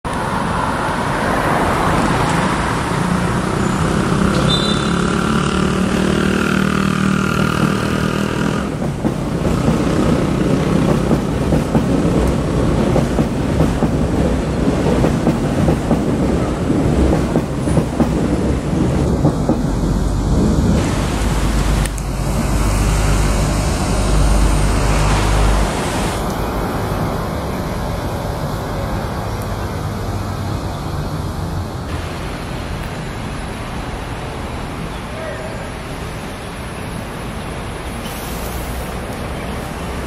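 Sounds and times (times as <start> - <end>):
wheels rumbling on track: 0.0 - 40.0
electric train whine: 0.2 - 37.7.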